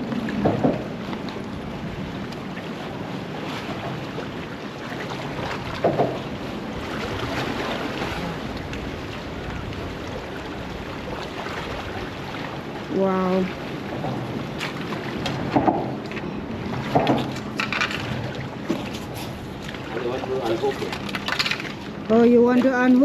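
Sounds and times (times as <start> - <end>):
surf at water's edge: 0.0 - 23.0.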